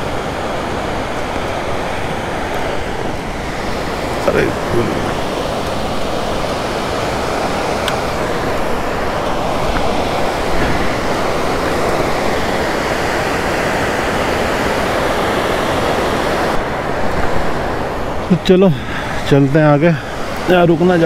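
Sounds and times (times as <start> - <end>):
river in flood rushing: 0.0 - 21.0.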